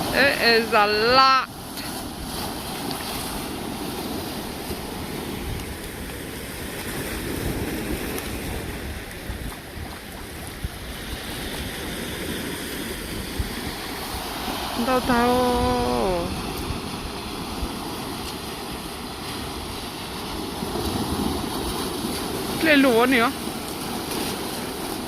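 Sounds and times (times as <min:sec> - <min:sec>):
surf breaking on shore: 0:00.0 - 0:25.0
wind rumbling on microphone: 0:00.0 - 0:25.0.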